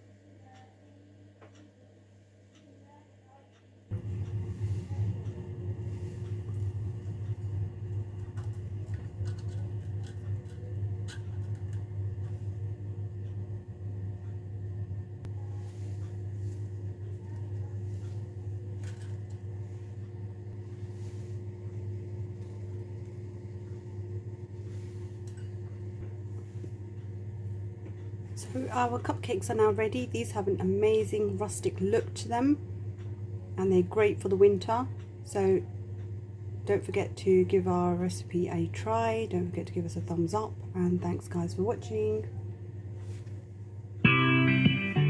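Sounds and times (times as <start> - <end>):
low mechanical hum: 0.0 - 45.0.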